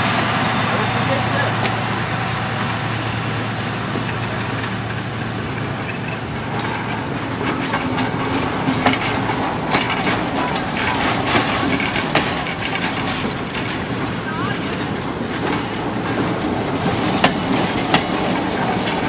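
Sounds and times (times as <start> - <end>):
locomotive engine hum: 0.0 - 19.0
train wheels clicking on track: 0.0 - 19.0.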